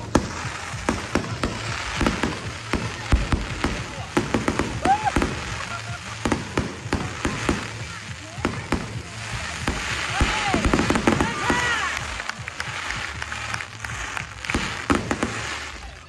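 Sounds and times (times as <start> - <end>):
fireworks bangs: 0.0 - 16.0
fireworks crackling hiss: 0.0 - 16.0.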